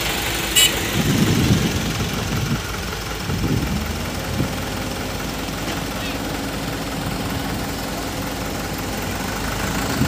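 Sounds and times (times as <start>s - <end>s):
diesel construction machine engine: 0.0s - 10.0s.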